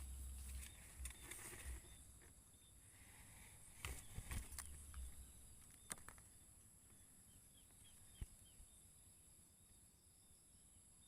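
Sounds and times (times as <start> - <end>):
bird chirps: 0.0 - 11.0
insects buzzing: 0.0 - 11.0.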